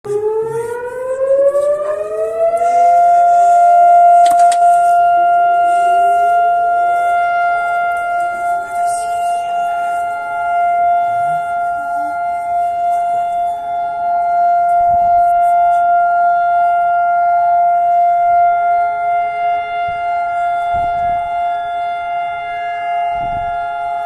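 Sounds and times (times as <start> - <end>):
civil defense siren steady tone: 0.0 - 24.0.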